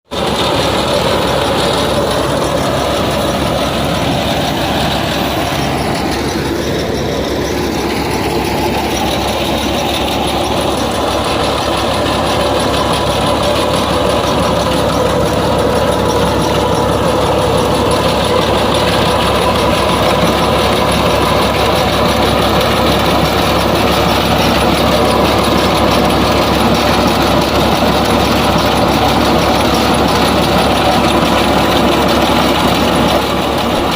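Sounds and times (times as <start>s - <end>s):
tractor diesel engine drone: 0.1s - 33.9s.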